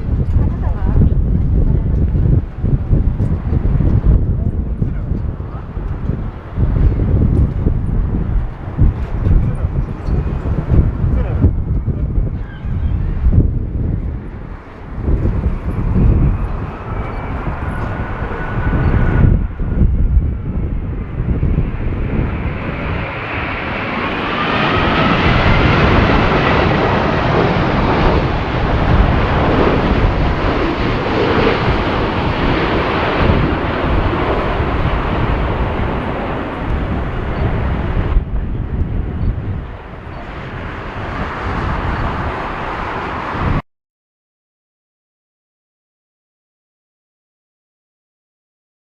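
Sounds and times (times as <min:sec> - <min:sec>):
jet airliner engines passing: 0:00.0 - 0:43.6.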